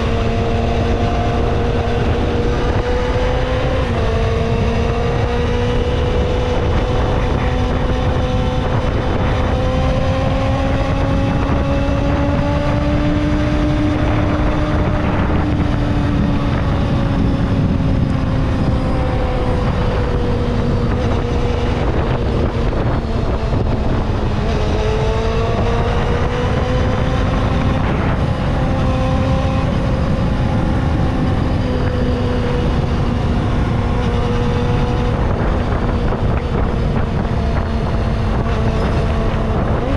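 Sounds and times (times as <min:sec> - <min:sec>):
motorcycle engine at high revs: 0:00.0 - 0:39.9
wind noise on microphone: 0:00.0 - 0:39.9.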